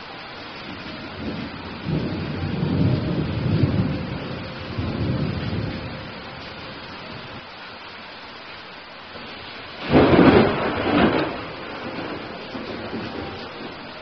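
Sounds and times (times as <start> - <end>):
rain hiss: 0.0 - 14.0
thunder rolling: 0.7 - 7.4, 9.2 - 14.0.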